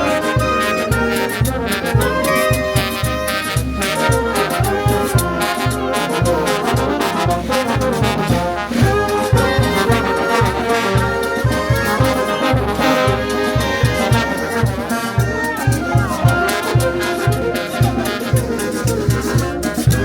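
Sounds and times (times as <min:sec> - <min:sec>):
trumpets and trombones melody: 0:00.0 - 0:20.0.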